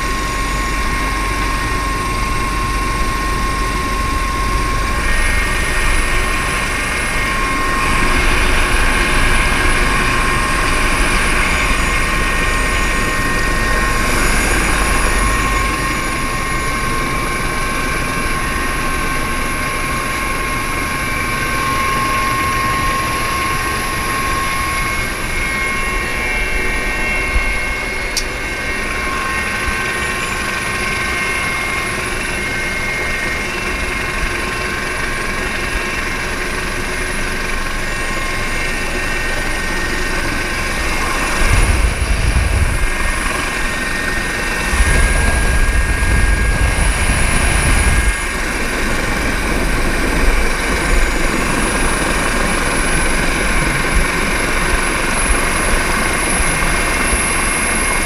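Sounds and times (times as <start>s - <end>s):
helicopter rotor and engine rumble: 0.0s - 58.0s
steady whine: 0.0s - 58.0s.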